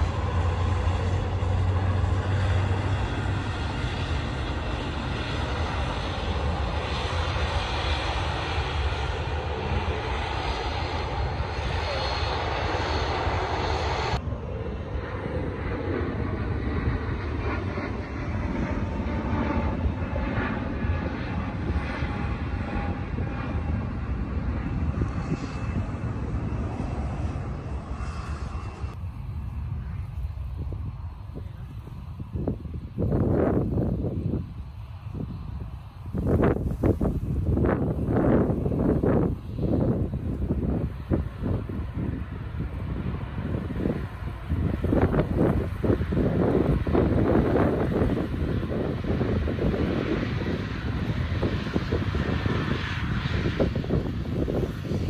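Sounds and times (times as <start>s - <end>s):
distant aircraft engine: 0.0s - 55.0s
low rumble: 0.0s - 55.0s
turboprop engines humming: 0.0s - 55.0s.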